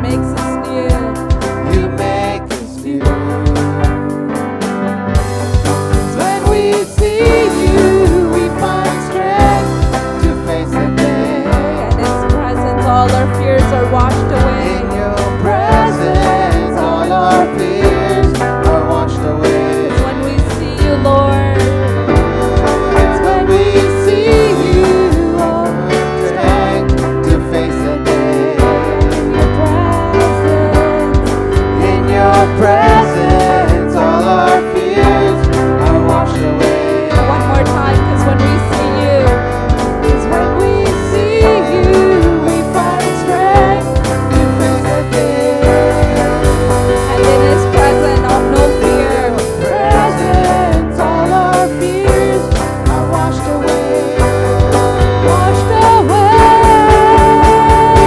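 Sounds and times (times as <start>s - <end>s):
person singing: 0.0s - 4.8s, 5.9s - 58.0s
drum beat with kick drum: 0.0s - 58.0s
keyboard chords: 0.0s - 58.0s
melodic line: 0.0s - 58.0s
sustained bass: 0.0s - 58.0s
worship song by band: 0.0s - 58.0s.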